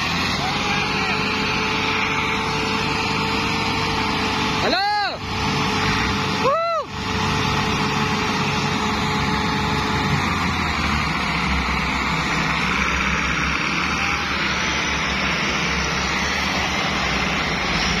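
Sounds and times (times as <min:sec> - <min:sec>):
tractor engines droning: 0:00.0 - 0:18.0.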